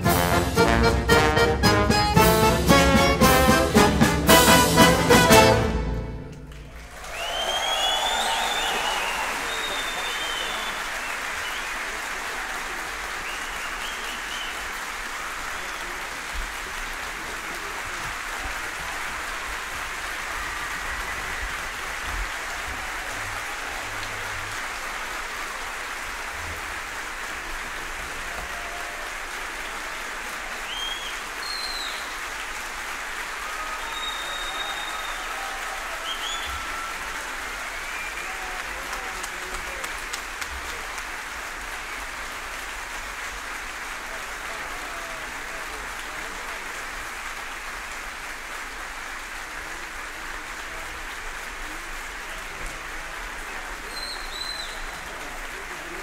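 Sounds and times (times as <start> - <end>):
audience applauding: 2.5 - 56.0.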